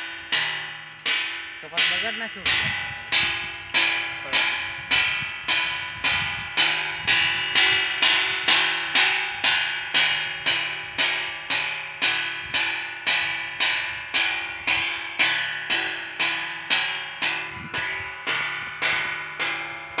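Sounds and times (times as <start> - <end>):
clapper striking steel plate: 0.0 - 20.0.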